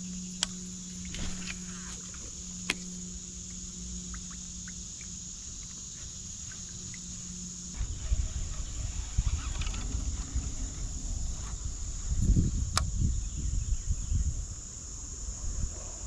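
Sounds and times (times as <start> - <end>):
insects buzzing: 0.0 - 16.0
low rumbling: 0.0 - 16.0.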